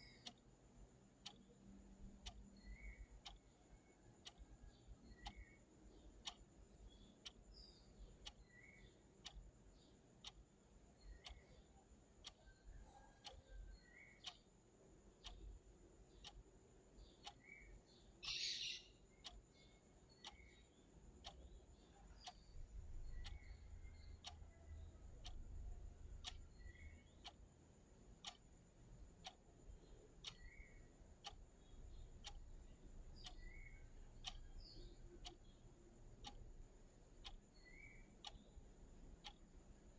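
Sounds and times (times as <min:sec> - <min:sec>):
clock ticking: 0:00.0 - 0:39.9
faint chirps: 0:00.0 - 0:39.9.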